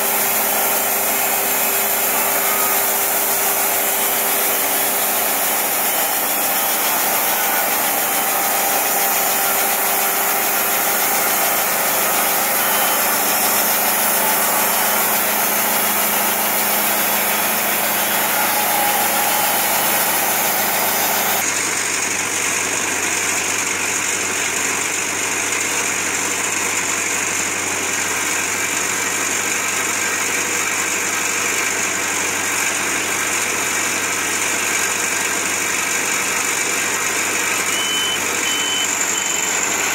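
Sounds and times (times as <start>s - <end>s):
band saw cutting through log: 0.0s - 39.9s
diesel engine running: 0.0s - 39.9s.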